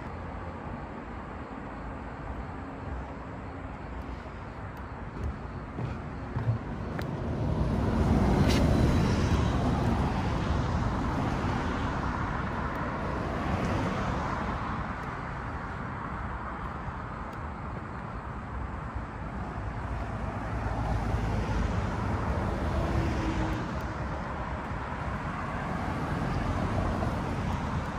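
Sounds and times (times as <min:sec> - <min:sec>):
vehicle passing on road: 0:00.0 - 0:27.9.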